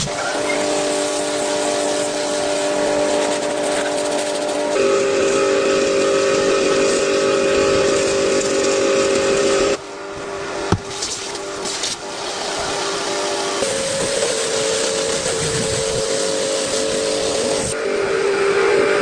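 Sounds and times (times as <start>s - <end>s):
loud hiss: 0.0s - 9.9s, 10.6s - 19.0s
machine whining: 0.0s - 19.0s.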